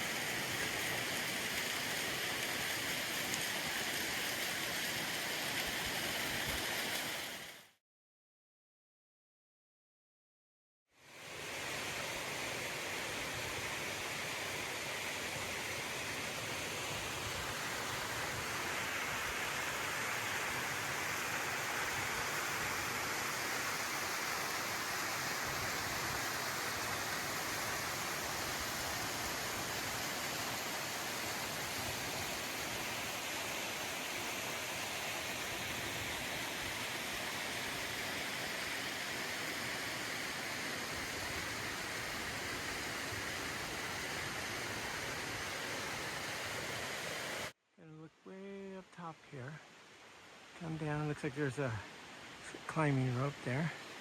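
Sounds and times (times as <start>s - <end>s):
waterfall rushing onto rocks: 0.0s - 7.7s, 11.3s - 47.5s.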